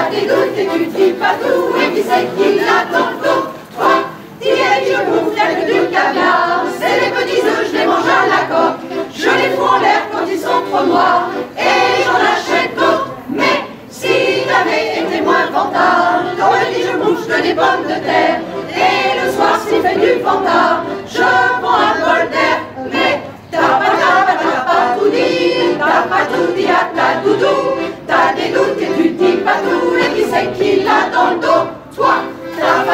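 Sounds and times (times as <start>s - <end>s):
accordion: 0.0s - 32.9s
choir singing: 0.0s - 32.9s.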